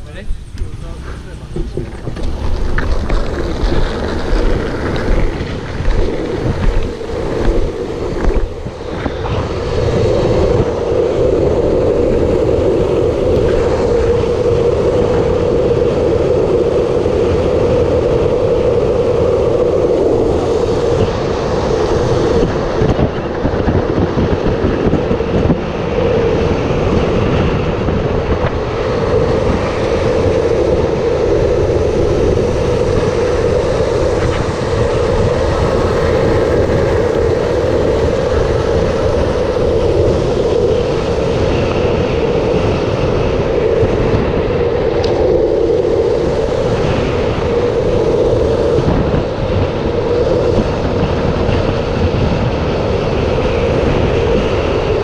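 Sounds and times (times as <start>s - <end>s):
skateboard wheels rolling on asphalt: 0.0s - 55.0s
wind noise on microphone: 0.0s - 55.0s.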